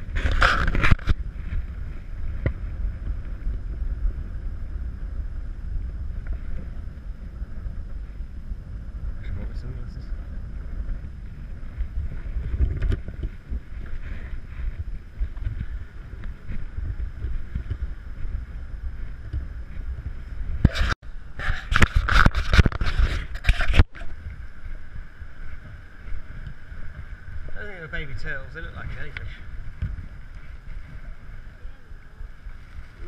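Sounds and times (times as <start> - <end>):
wind rumbling on microphone: 0.0 - 33.0.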